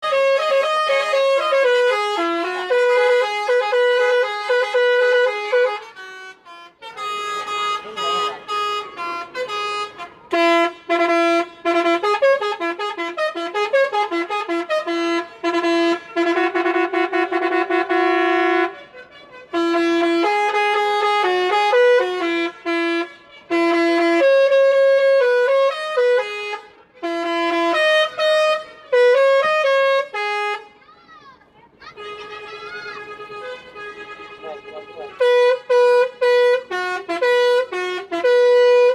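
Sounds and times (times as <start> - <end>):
air horn playing a tune: 0.0 - 30.8, 31.9 - 38.9.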